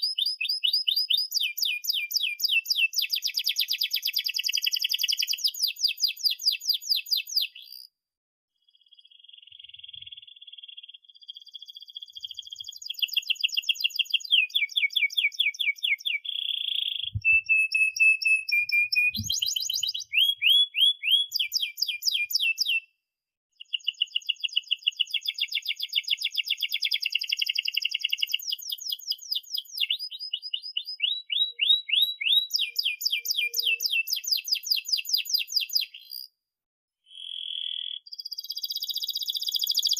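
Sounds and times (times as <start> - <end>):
canary singing trills: 0.0 - 7.9, 8.7 - 22.9, 23.6 - 36.3, 37.1 - 39.9.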